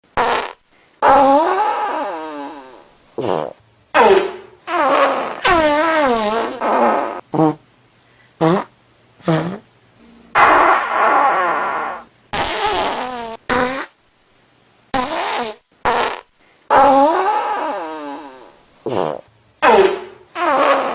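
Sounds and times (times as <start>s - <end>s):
fart sound effects: 0.2s - 7.6s, 8.4s - 9.6s, 10.3s - 14.0s, 14.9s - 20.9s.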